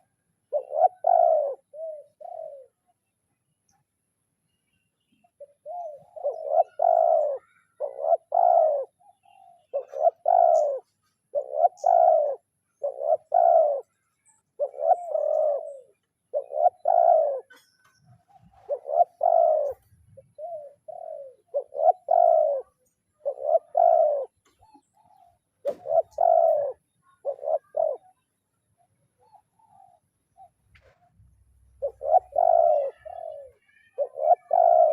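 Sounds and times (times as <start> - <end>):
dove cooing: 0.0 - 3.0, 5.3 - 34.9.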